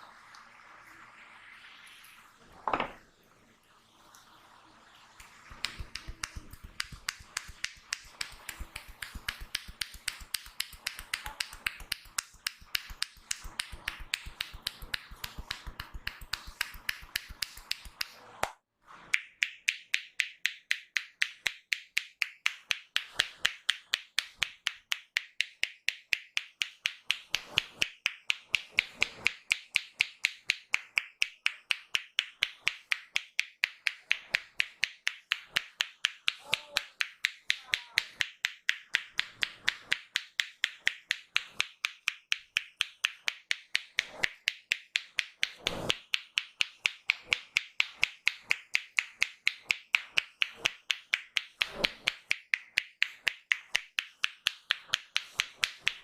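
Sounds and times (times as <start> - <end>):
hands slapping head massage: 5.2 - 56.0.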